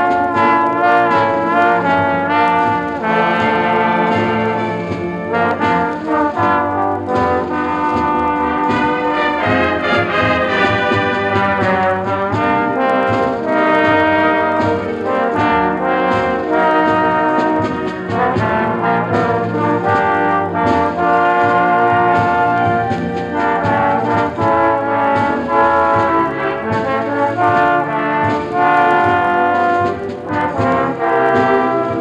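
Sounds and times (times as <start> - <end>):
brass chords: 0.0 - 32.0
school band playing: 0.0 - 32.0.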